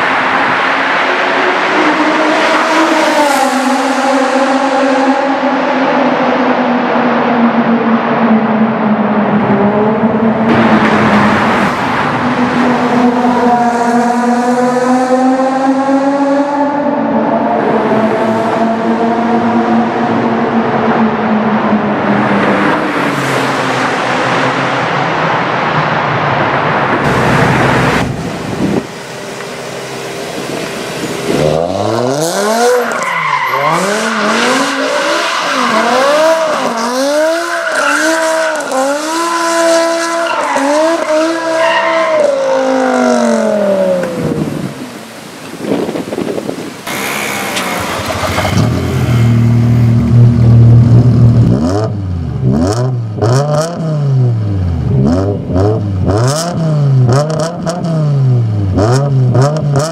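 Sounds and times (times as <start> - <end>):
car engine revving: 0.0 - 25.7, 26.3 - 45.0, 46.8 - 59.9.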